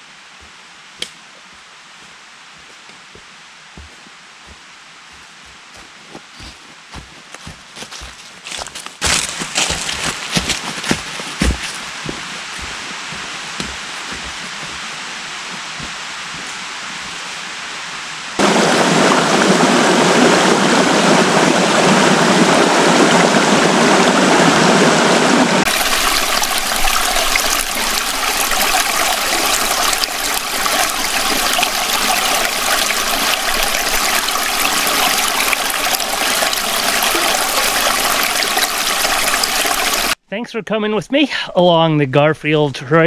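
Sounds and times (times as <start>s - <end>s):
mountain stream flowing: 0.0s - 40.2s.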